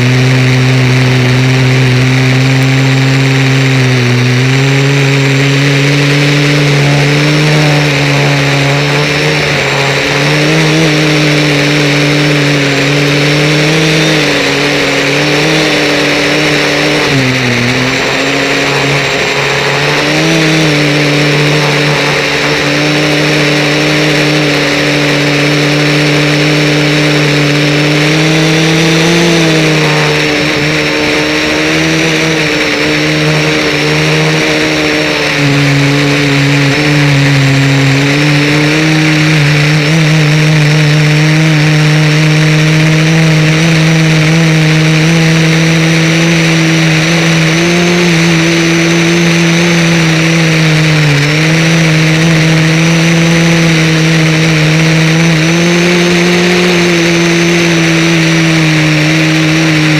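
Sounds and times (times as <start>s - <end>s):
model aircraft motor droning: 0.0s - 59.9s.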